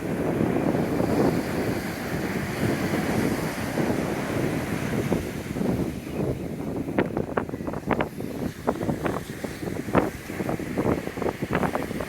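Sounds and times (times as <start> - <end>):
surf rumbling: 0.0 - 12.0
wind buffeting microphone: 0.0 - 12.0.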